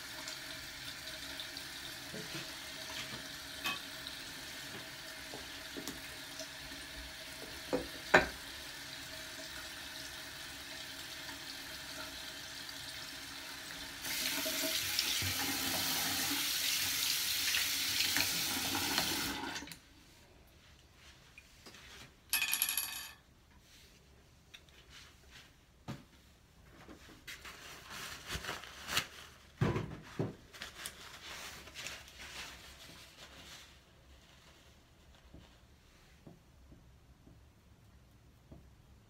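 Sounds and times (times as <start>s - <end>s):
water running in a bathroom: 0.0s - 22.1s, 26.7s - 39.0s.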